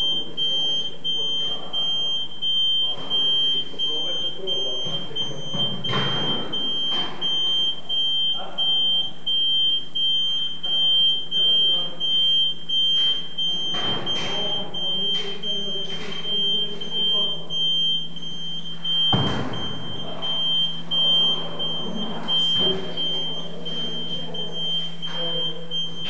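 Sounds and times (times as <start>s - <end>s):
low steady hum: 0.0s - 26.0s
pulsing warning beep: 0.0s - 26.0s.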